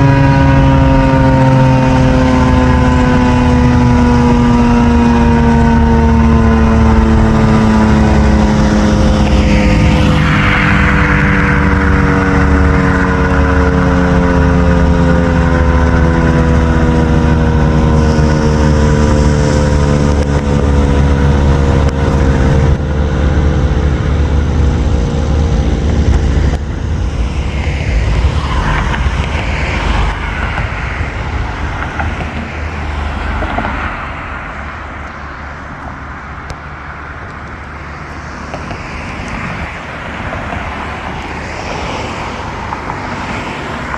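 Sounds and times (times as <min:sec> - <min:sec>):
road traffic: 0:00.0 - 0:43.9
warning siren winding down: 0:00.0 - 0:43.9.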